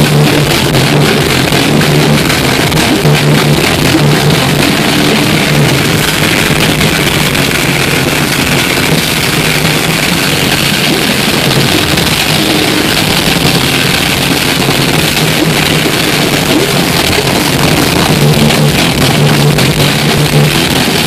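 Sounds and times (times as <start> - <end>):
metal band playing live: 0.0 - 21.0.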